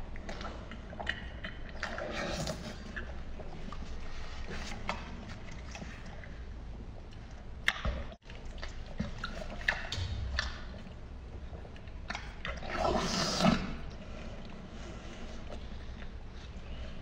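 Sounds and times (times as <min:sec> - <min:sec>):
wet chewing and mouth smacks: 0:00.0 - 0:14.7.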